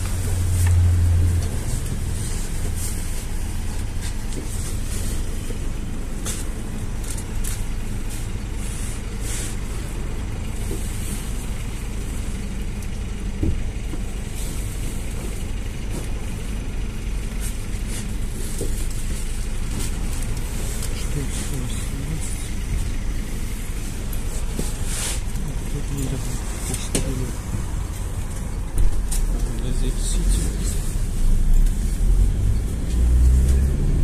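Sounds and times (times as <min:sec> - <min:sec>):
bus engine and road drone: 0:00.0 - 0:34.0.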